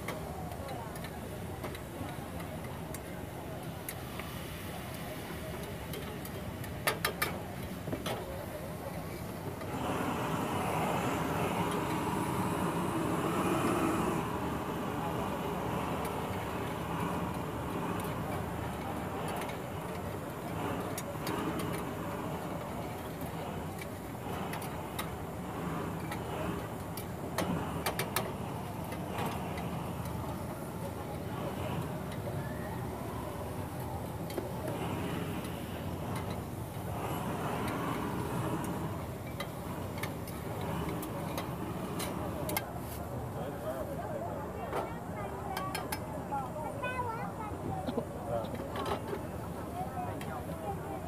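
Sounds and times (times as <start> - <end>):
gas burner and frying rush: 0.0 - 51.0
steady rumble and hiss: 0.0 - 51.0.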